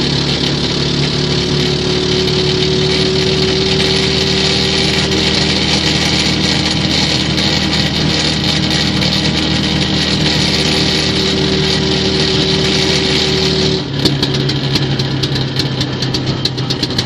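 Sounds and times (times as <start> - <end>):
high whine: 0.0 - 17.0
small engine running steadily: 0.0 - 17.0.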